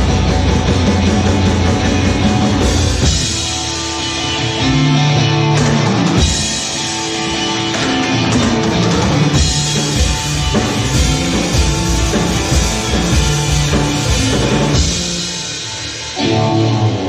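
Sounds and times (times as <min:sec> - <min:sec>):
drum kit steady beat: 0:00.0 - 0:16.2
psychedelic rock band playing: 0:00.0 - 0:17.0.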